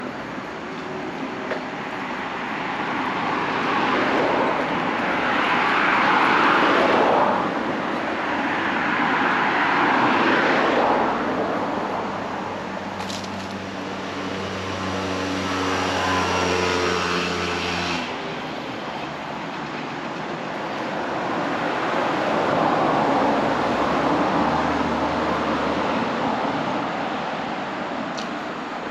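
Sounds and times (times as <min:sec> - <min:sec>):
vehicles passing: 0:00.0 - 0:28.9.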